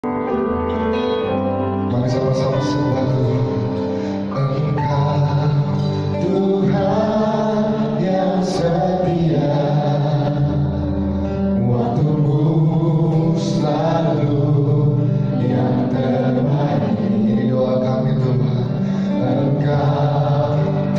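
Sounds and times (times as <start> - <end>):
voices singing gospel: 1.9 - 20.9.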